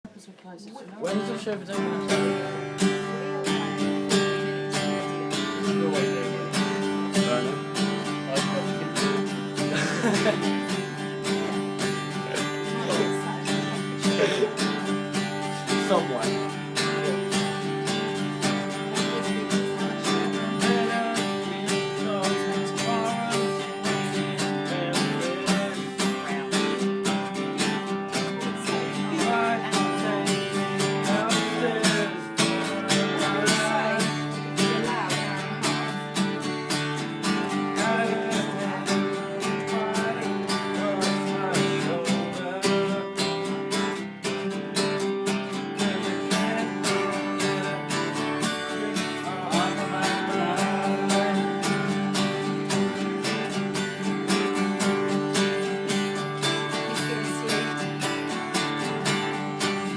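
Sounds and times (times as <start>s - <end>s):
country music on acoustic guitar: 0.7s - 59.9s.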